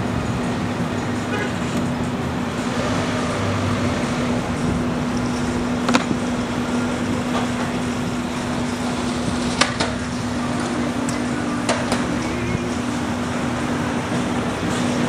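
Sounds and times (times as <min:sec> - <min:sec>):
car running slowly: 0:00.0 - 0:15.0
low hum: 0:00.0 - 0:15.0.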